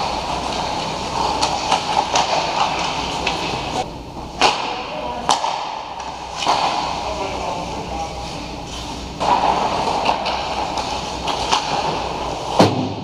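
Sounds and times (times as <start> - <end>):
skates scraping ice: 0.0 - 3.8, 4.4 - 13.0
hockey sticks clacking: 0.0 - 7.6, 8.7 - 13.0.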